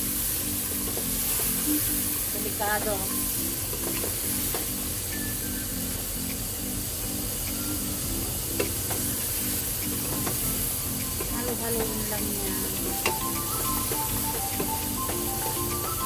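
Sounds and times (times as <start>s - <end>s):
background music: 0.0s - 16.0s
meat sizzling in oil: 0.0s - 16.0s.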